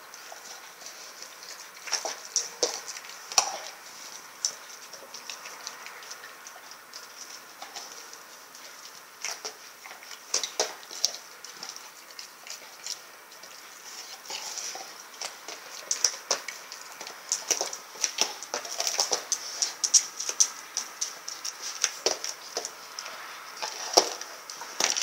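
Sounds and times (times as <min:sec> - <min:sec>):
dog chewing frozen meat: 0:00.0 - 0:25.0.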